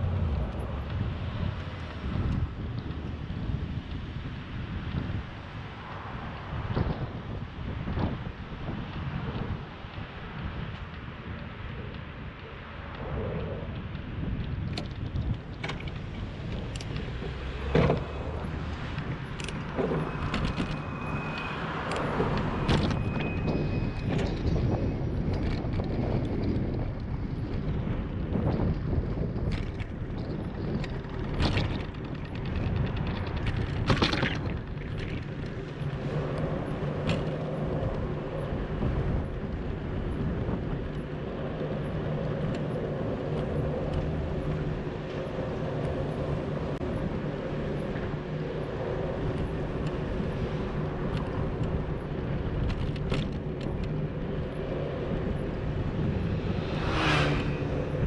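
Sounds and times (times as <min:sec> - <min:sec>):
bicycle tyre and wind noise: 0:00.0 - 0:58.0
road traffic: 0:00.0 - 0:58.0.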